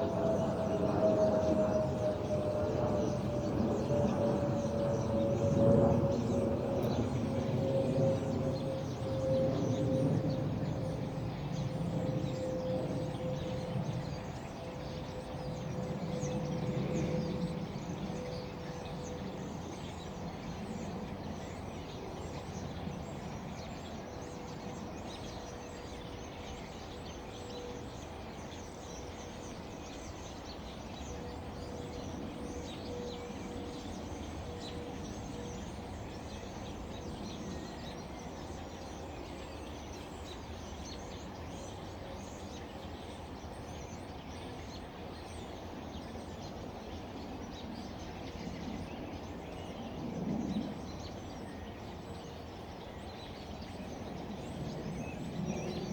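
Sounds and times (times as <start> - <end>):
airplane droning overhead: 0.0 - 55.9
birds singing and chirping: 0.0 - 55.9.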